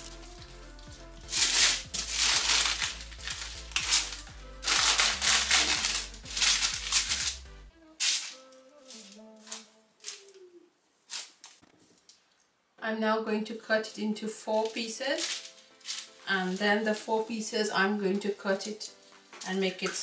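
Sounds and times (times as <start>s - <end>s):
baking paper rustling and crinkling: 0.0s - 7.4s, 8.0s - 12.2s, 14.4s - 20.0s
quiet background music: 0.0s - 20.0s.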